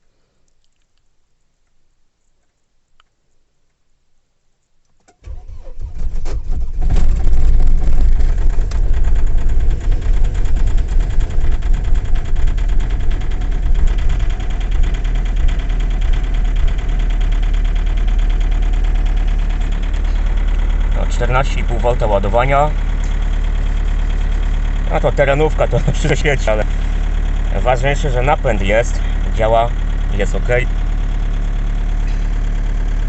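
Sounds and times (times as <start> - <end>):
diesel engine idling: 5.2 - 33.0
starter motor cranking: 5.2 - 33.0.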